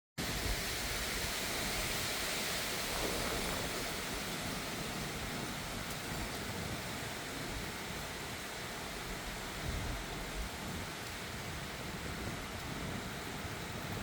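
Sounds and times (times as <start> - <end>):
heavy rain hissing: 0.2 - 14.0.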